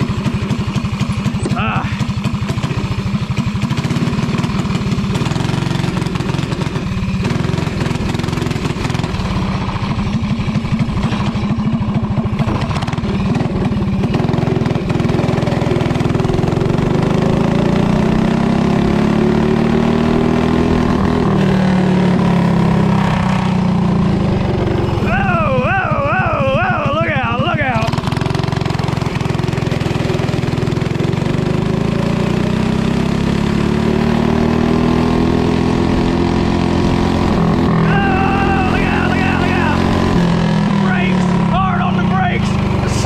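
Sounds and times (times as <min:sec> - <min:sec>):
go-kart engine running: 0:00.0 - 0:43.0.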